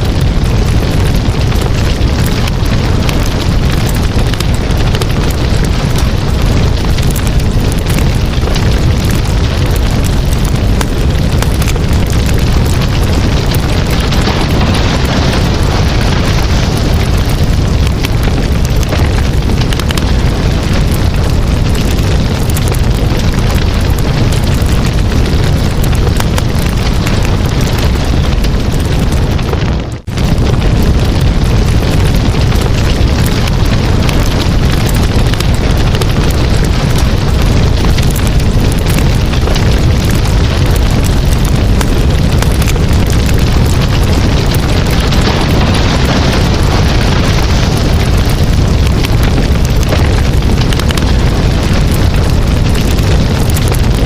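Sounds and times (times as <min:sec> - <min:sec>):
campfire flames rumbling: 0:00.0 - 0:54.0
wood crackling and popping: 0:00.0 - 0:54.0.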